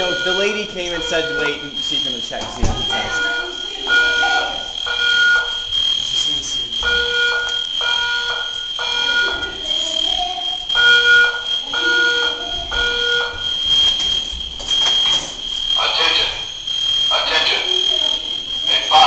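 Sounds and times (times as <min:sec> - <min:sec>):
fire alarm horn tones: 0:00.0 - 0:19.0
steady high-pitched tone: 0:00.0 - 0:19.0.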